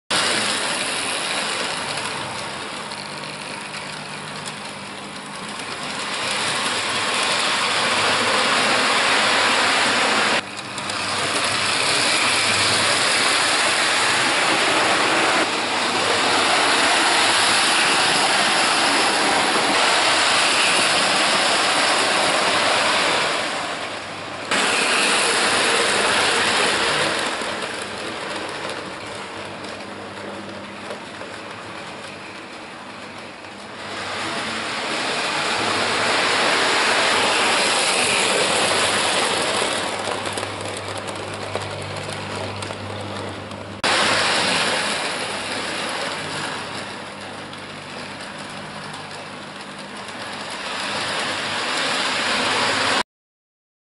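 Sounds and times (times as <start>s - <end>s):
metal wheels rolling on rails: 0.1s - 53.0s
model train motor whirring: 0.1s - 53.0s.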